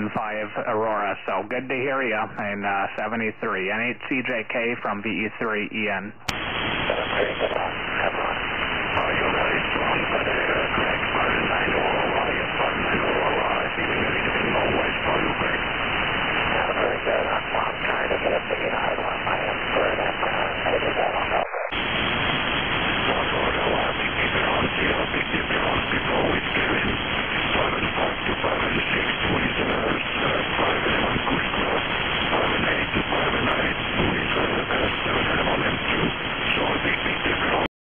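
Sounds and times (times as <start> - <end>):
radio receiver hiss: 0.0 - 37.7.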